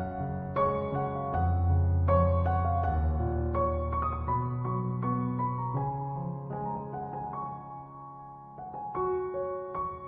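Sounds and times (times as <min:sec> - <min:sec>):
slow keyboard music: 0:00.0 - 0:10.0.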